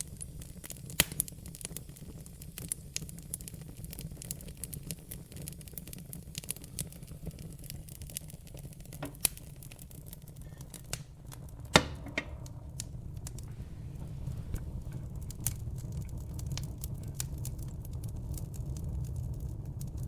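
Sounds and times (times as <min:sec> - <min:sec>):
fire crackling and popping: 0:00.0 - 0:20.0
low rumble of flame: 0:00.0 - 0:20.0.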